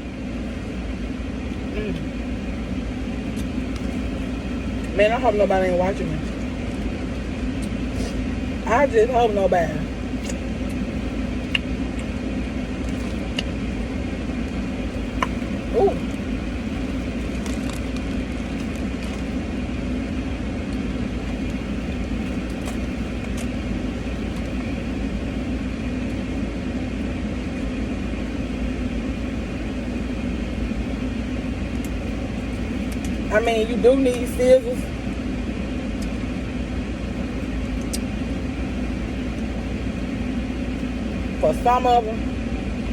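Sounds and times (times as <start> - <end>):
car idling from inside cabin: 0.0 - 42.9.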